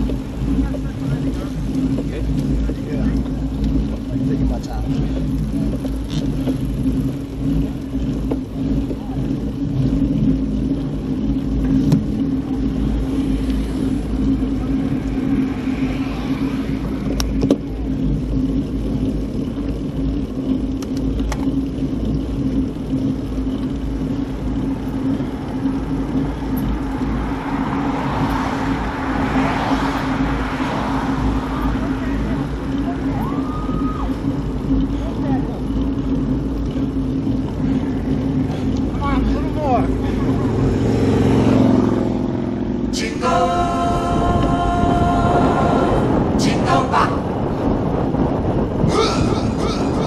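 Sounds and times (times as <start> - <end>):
motorcycle engine running: 0.0 - 50.0
wind and road rumble: 0.0 - 50.0.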